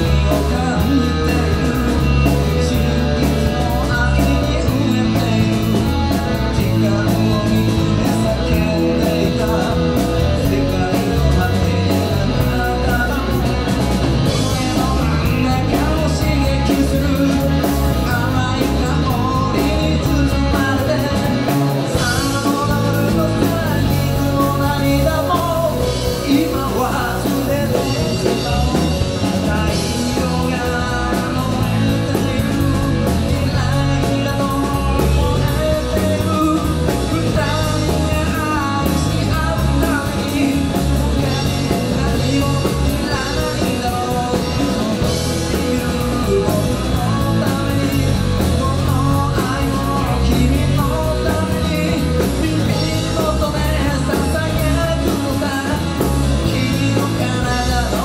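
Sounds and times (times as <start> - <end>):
drums: 0.0 - 58.0
electric bass: 0.0 - 58.0
electric guitar: 0.0 - 58.0
person singing: 0.0 - 58.0.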